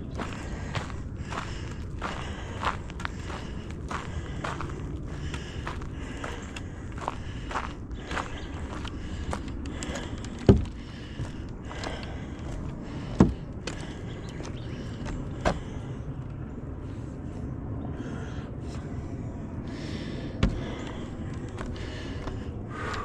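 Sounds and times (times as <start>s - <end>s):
walking and handling rumble: 0.0s - 23.0s.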